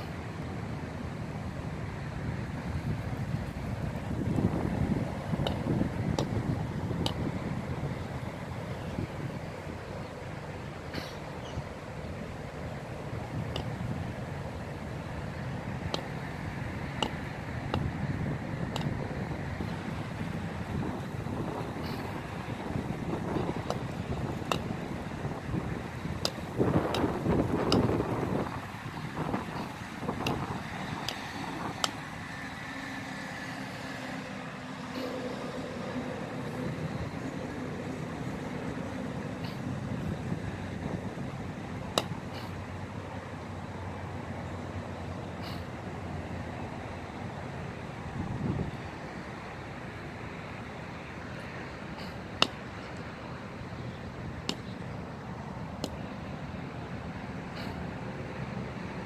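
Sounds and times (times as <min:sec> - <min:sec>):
low engine hum: 0:00.0 - 0:59.0
road traffic noise: 0:00.0 - 0:59.0.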